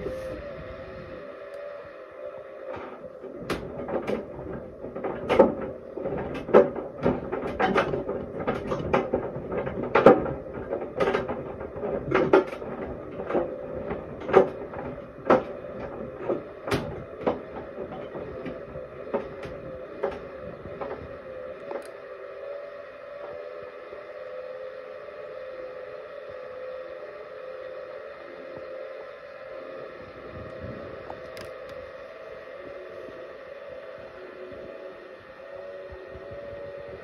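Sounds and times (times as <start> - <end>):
dryer motor and blower hum: 0.0 - 37.0.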